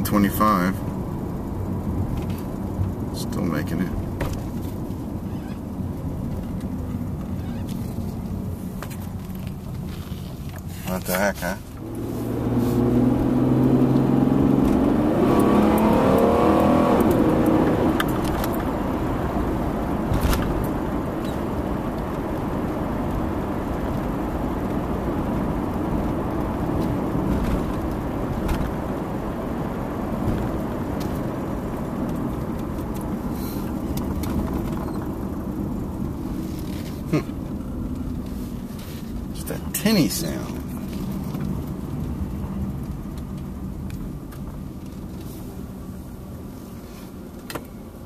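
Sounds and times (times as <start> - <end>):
car engine: 0.0 - 48.0
road noise: 0.0 - 48.0.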